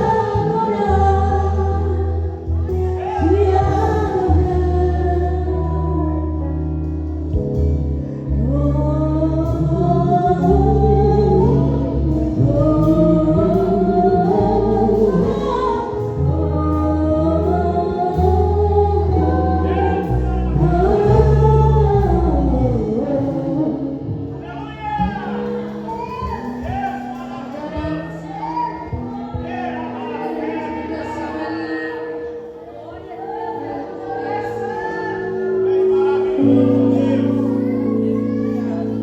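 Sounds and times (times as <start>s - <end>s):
worship song with band: 0.0s - 39.0s.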